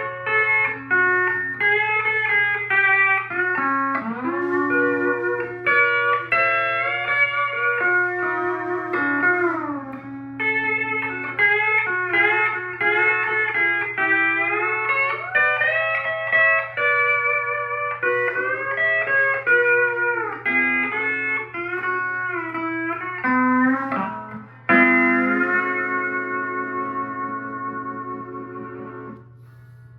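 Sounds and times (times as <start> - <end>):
pedal steel guitar playing: 0.0 - 29.3
steady low hum: 0.0 - 29.9.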